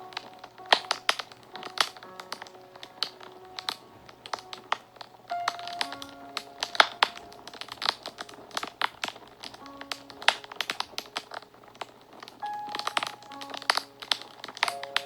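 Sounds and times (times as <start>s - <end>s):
soft sustained music notes: 0.0s - 15.0s
wood fire crackling and popping: 0.0s - 15.0s.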